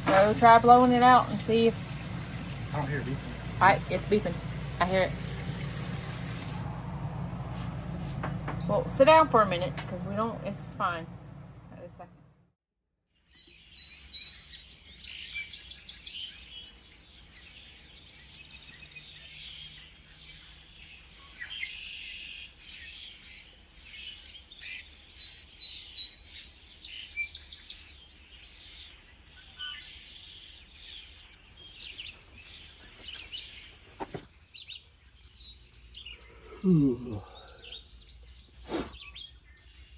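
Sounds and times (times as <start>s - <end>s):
birds chirping and singing: 0.0s - 6.8s, 13.4s - 39.9s.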